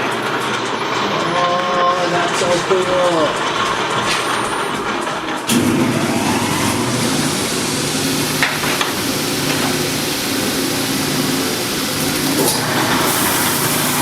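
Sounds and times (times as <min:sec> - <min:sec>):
lathe motor hum and belt whir: 0:00.0 - 0:14.0.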